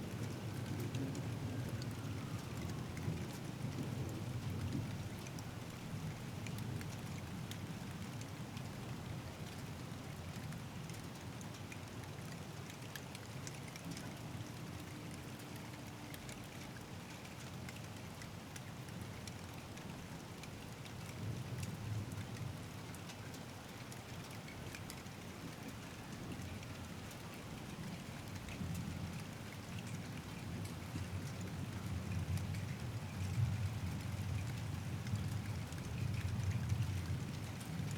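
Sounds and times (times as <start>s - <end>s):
raindrops ticking on surfaces: 0.0s - 37.9s
steady rain falling: 0.0s - 37.9s.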